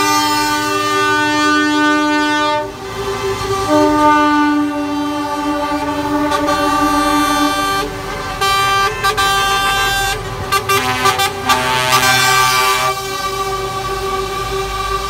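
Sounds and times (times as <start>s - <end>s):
diesel truck engines rumbling: 0.0s - 15.0s
truck horns blasting: 0.0s - 15.0s.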